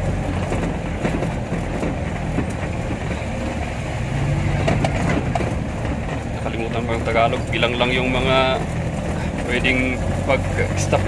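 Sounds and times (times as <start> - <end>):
road noise: 0.0 - 11.0
sharp knocks and rattles: 0.0 - 11.0
vehicle engine running: 0.0 - 11.0.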